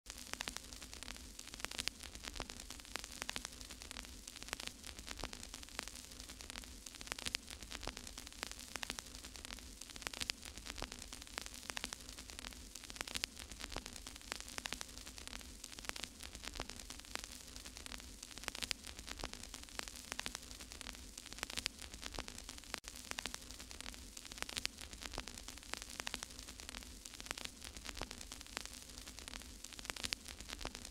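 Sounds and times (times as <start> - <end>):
static hiss with crackles: 0.1 - 30.9.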